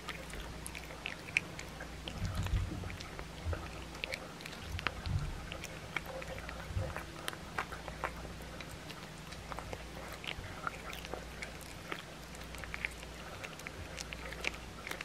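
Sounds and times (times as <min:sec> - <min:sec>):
cat crunching bone: 0:00.0 - 0:15.0.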